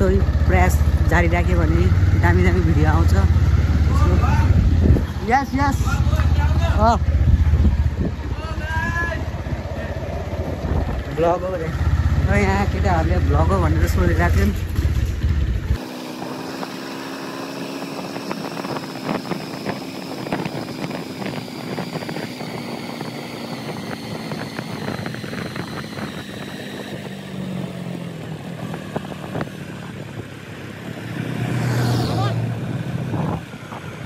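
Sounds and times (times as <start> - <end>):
motorbike engine running: 0.0 - 34.0.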